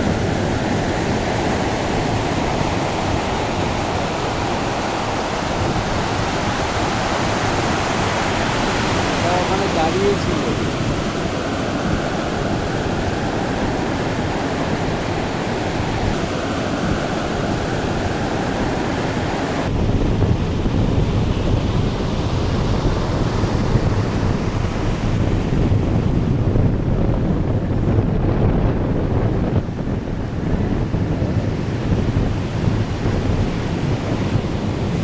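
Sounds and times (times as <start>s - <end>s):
low wind rumble on microphone: 0.0s - 35.0s
sea water rushing: 0.0s - 35.0s
wind: 0.0s - 35.0s.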